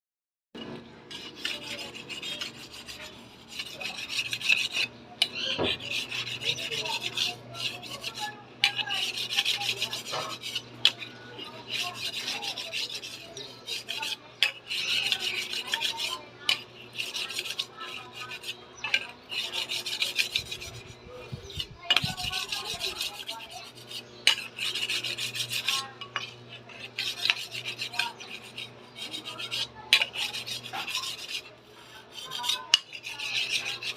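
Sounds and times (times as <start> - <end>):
knife blade scraping on sharpener: 0.6 - 33.9.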